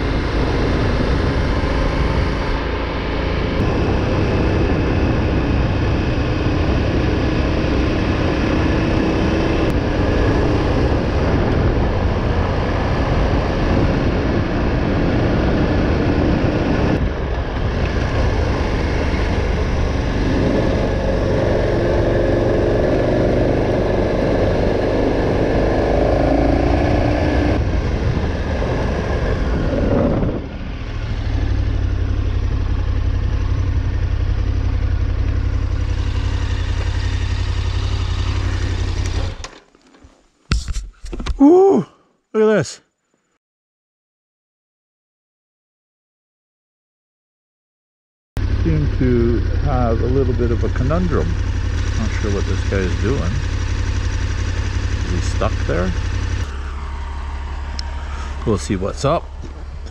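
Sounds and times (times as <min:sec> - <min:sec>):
motorcycle engine running: 0:00.0 - 0:39.5, 0:48.4 - 0:59.9.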